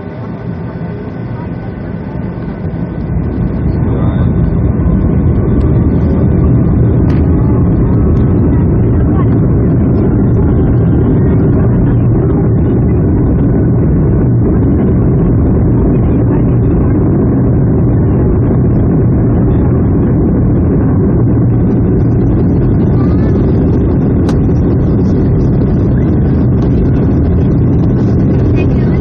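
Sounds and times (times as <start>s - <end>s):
jet engines rumbling in cabin: 0.0s - 29.0s.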